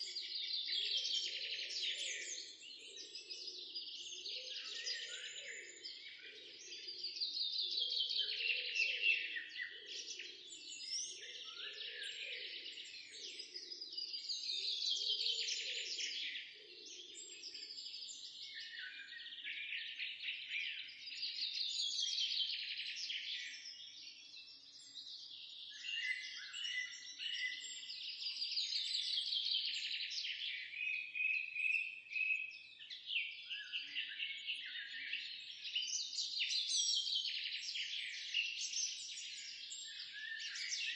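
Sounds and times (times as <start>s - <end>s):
songbirds twittering: 0.0s - 40.9s.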